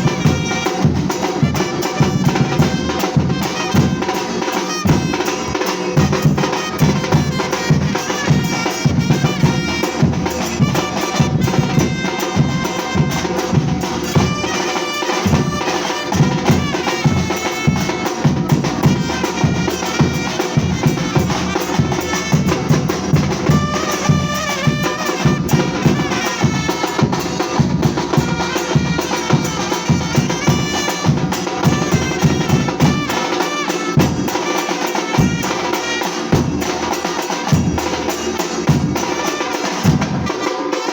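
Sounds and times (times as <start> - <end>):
percussion ensemble drumming: 0.0 - 40.9
wind instrument melody: 0.0 - 40.9.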